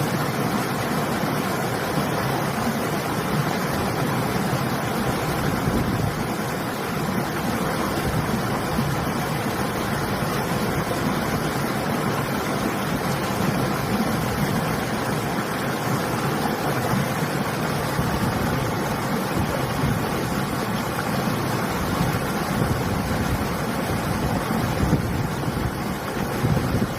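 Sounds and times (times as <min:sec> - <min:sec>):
river water rushing: 0:00.0 - 0:26.9
wind: 0:00.0 - 0:26.9.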